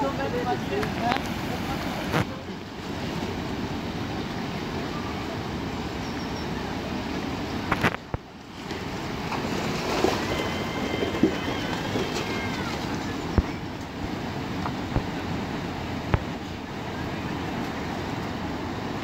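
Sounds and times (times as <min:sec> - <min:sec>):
whitewater rushing: 0:00.0 - 0:19.0.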